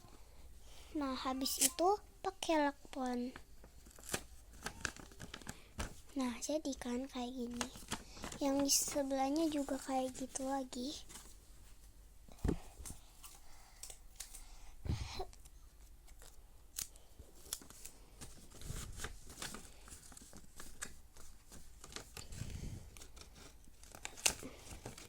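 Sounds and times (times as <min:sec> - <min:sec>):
tape and paper rustling: 0:01.4 - 0:02.0, 0:03.0 - 0:11.4, 0:12.8 - 0:14.4, 0:15.2 - 0:25.0.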